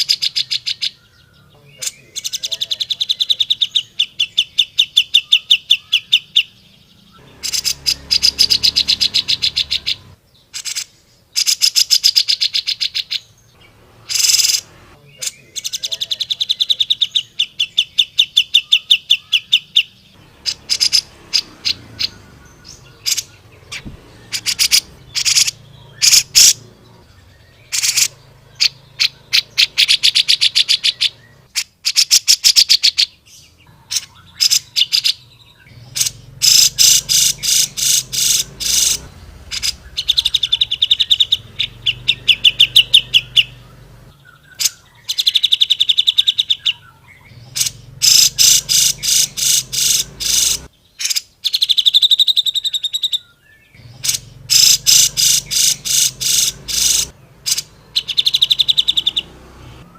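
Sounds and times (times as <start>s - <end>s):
bulbul singing rapid trills: 0.0s - 59.9s.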